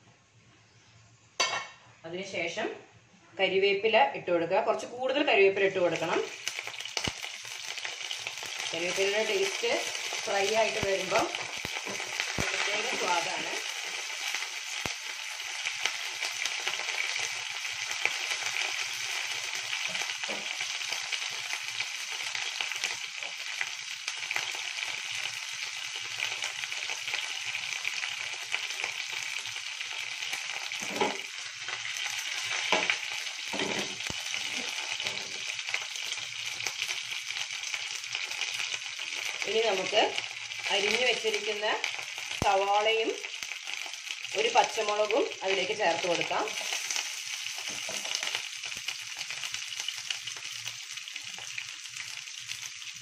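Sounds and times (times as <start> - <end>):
leaves sizzling in hot oil: 4.8 - 53.0.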